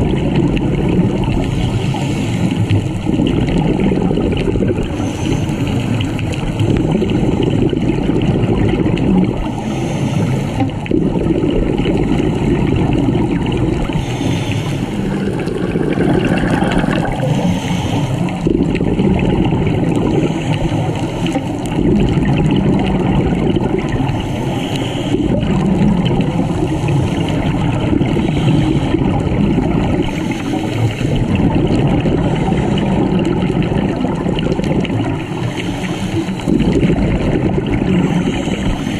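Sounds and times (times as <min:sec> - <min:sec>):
exhaled bubbles rushing: 0:00.0 - 0:38.9
muffled underwater rumble: 0:00.0 - 0:38.9.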